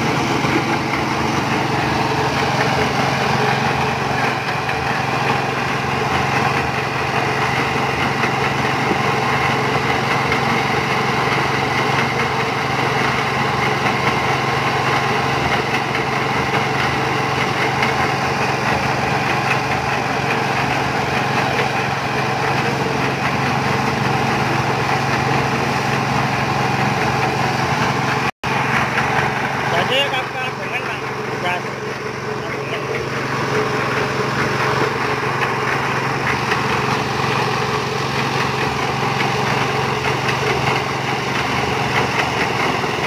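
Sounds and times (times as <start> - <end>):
concrete mixer: 0.0 - 43.0
small engine running: 0.0 - 43.0.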